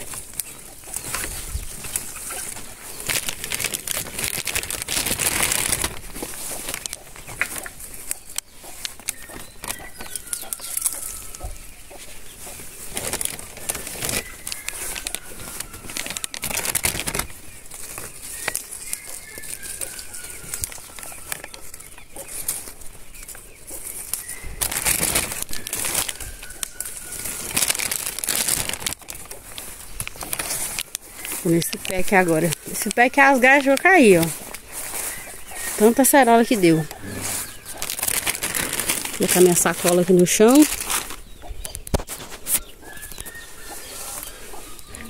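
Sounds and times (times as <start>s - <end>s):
leaves and branches rustling: 0.0s - 45.0s.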